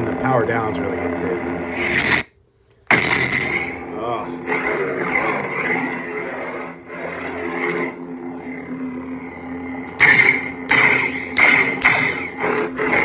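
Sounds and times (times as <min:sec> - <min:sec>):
lightsaber hum: 0:00.0 - 0:02.3, 0:02.9 - 0:13.0.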